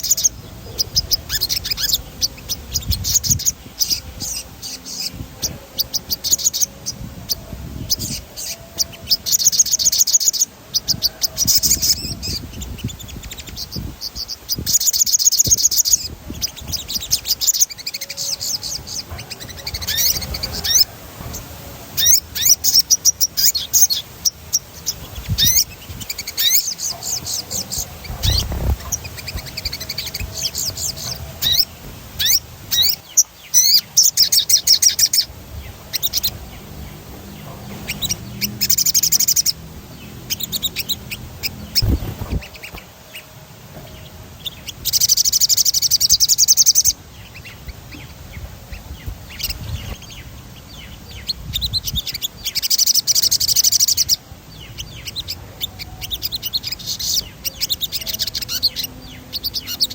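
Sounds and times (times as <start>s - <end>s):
songbird trilling: 0.0s - 59.9s.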